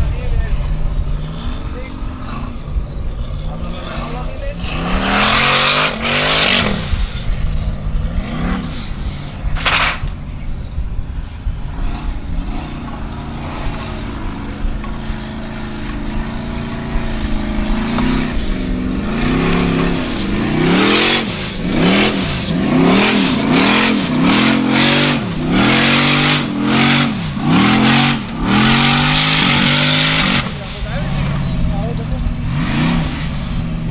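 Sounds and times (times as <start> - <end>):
buggy engine revving: 0.0 - 33.9.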